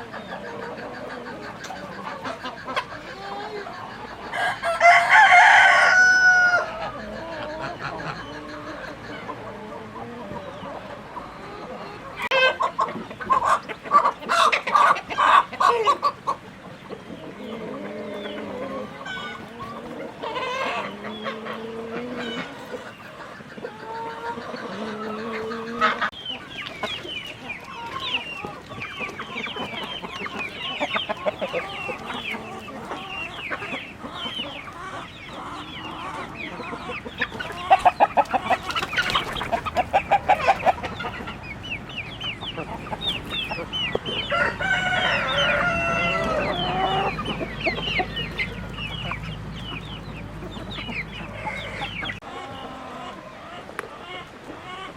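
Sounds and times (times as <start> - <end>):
chickens clucking and cackling: 0.0 - 54.9.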